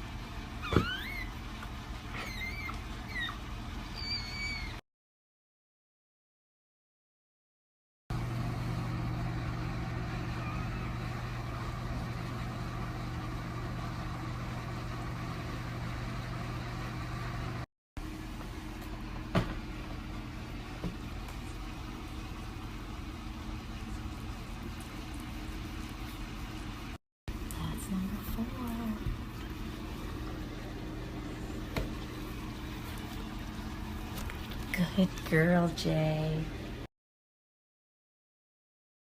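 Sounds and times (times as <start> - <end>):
electric heater fan humming: 0.0 - 4.8, 8.1 - 36.9.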